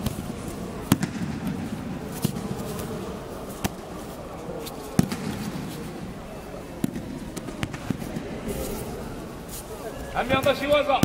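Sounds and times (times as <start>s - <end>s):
bodies slapping mats: 0.0s - 9.6s
low background hubbub: 0.0s - 11.0s.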